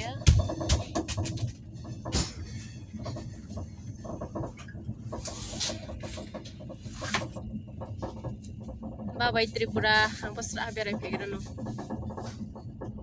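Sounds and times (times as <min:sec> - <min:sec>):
knocks and rattles: 0:00.0 - 0:13.0
train carriage rumble: 0:00.0 - 0:13.0.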